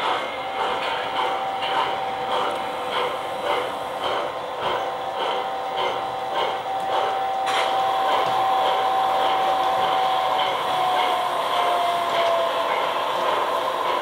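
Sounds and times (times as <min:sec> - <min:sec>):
wheels clicking on track: 0:00.0 - 0:14.0.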